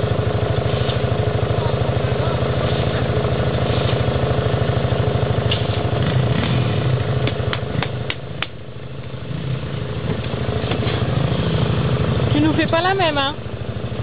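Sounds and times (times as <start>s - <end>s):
three-wheeler engine running: 0.0s - 14.0s.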